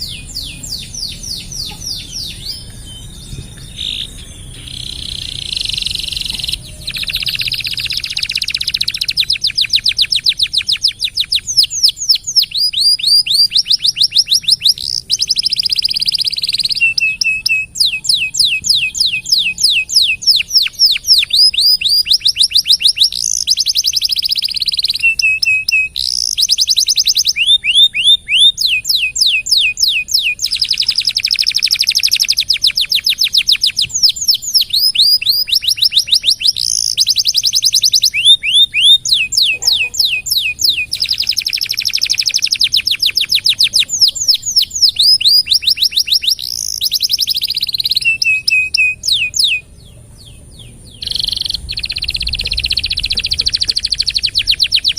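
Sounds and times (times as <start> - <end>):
canary singing: 0.0 - 54.9.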